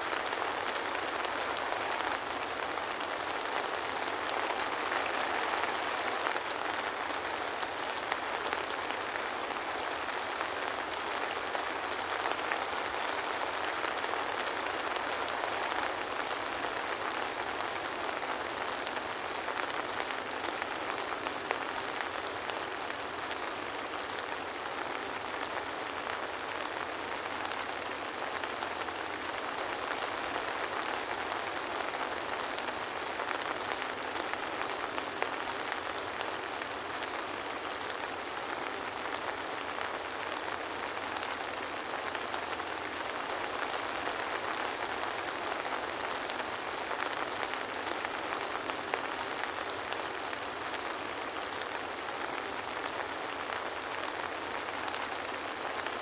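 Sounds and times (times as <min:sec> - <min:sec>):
soft rain hiss: 0:00.0 - 0:56.0.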